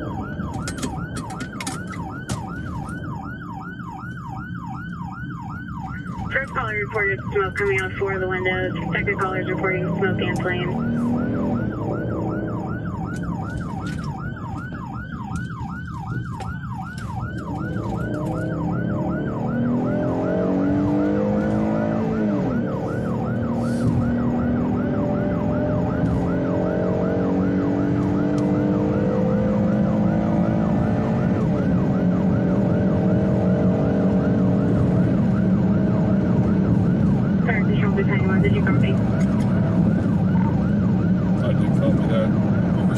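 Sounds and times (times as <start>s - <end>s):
electronic siren yelp: 0.0s - 42.9s
vehicle engine and road noise: 0.0s - 42.9s.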